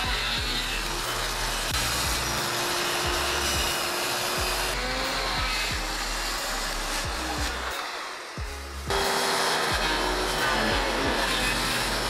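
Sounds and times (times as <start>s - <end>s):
background music with steady beat: 0.0s - 12.0s
power saw cutting wood: 0.0s - 12.0s.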